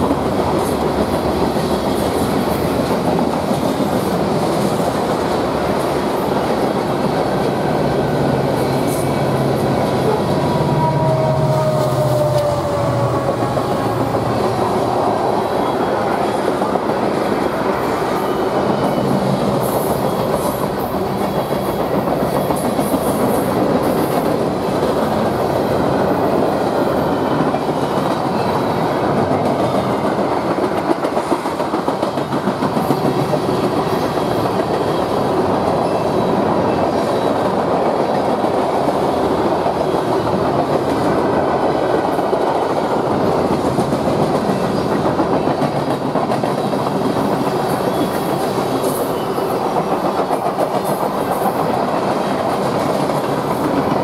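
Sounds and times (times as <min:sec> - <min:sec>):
steel train wheels rolling on rail: 0:00.0 - 0:54.0.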